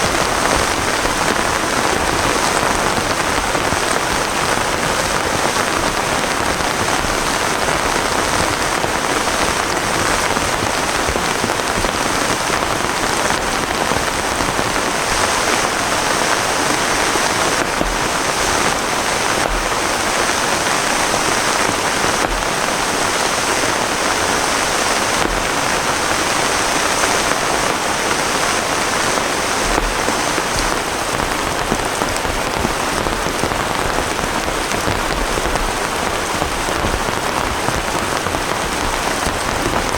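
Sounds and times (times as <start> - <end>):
heavy rain hissing: 0.0 - 39.9
sharp rain taps: 0.0 - 39.9.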